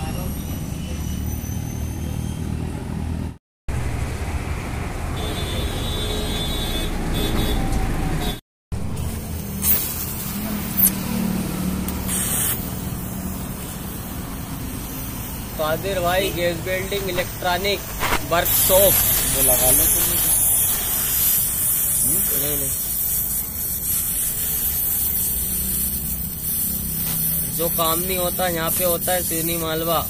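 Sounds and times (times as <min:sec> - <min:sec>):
low rumble of traffic: 0:00.0 - 0:30.0.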